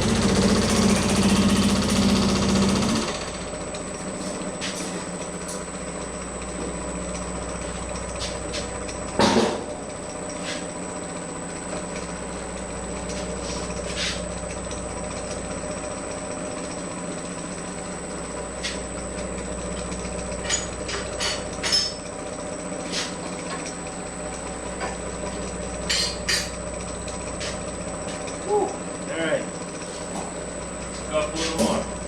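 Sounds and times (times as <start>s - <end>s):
machine hum with high whine: 0.0s - 32.0s.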